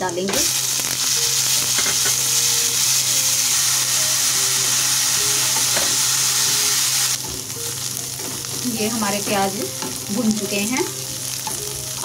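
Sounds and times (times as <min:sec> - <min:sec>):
onion paste sizzling in hot oil: 0:00.0 - 0:12.0.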